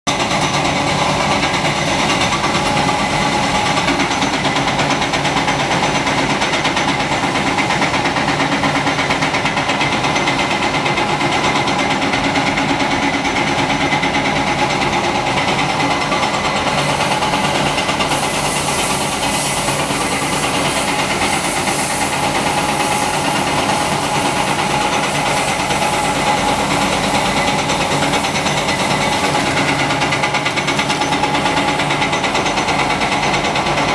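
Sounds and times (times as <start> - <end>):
excavator diesel engine: 0.1 - 33.9.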